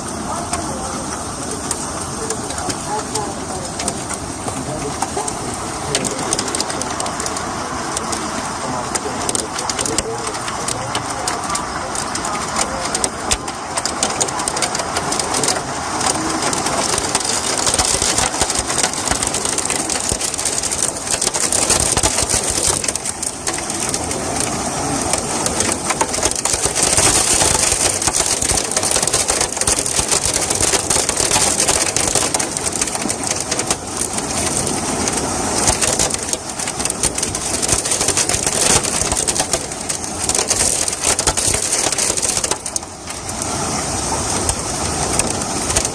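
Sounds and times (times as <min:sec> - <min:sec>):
hailstones pelting down: 0:00.0 - 0:45.9.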